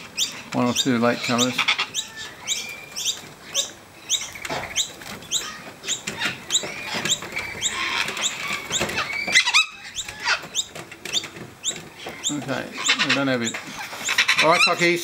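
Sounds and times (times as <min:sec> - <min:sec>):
harsh bird squawks: 0:00.0 - 0:15.0.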